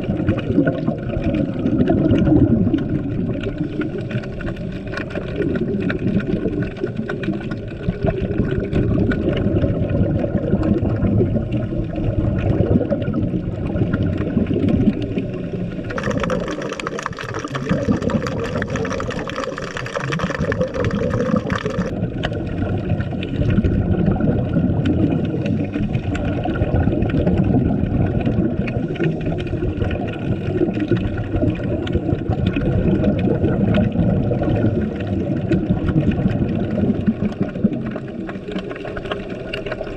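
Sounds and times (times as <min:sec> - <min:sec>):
underwater churning rumble: 0:00.0 - 0:39.9.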